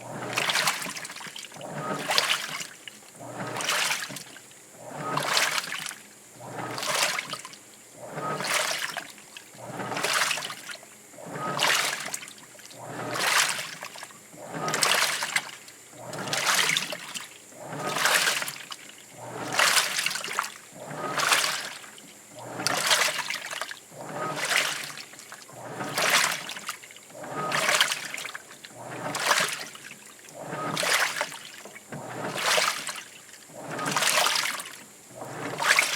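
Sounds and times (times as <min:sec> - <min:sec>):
washing machine sloshing: 0:00.0 - 0:35.9.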